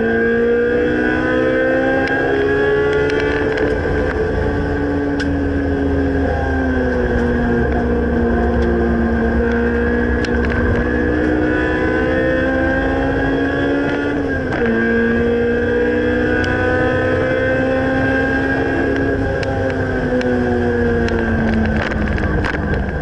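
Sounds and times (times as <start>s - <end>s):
car engine revving under load: 0.0s - 23.0s.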